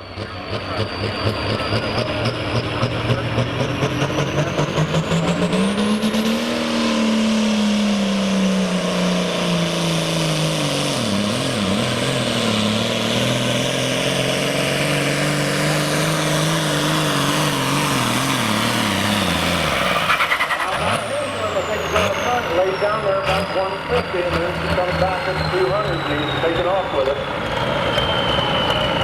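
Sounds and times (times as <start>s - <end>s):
high turbo whine: 0.0s - 29.0s
tractor diesel engine under load: 0.0s - 29.0s.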